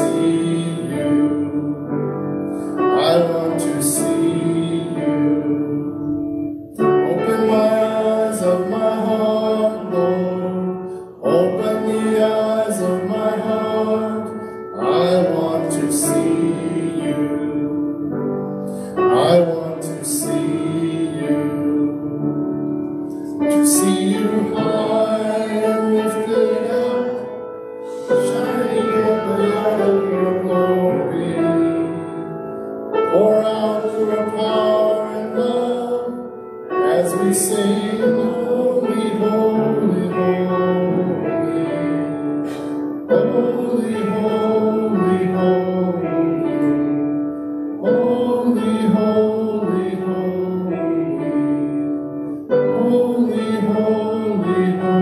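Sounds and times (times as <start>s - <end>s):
piano accompaniment: 0.0s - 55.0s
voices singing worship song: 0.0s - 55.0s.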